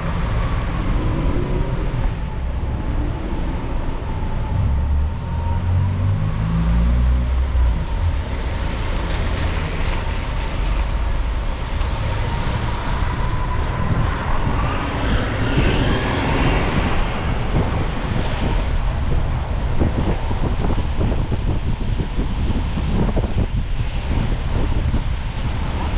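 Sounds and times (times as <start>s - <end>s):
car tyre and engine road noise: 0.0s - 25.9s.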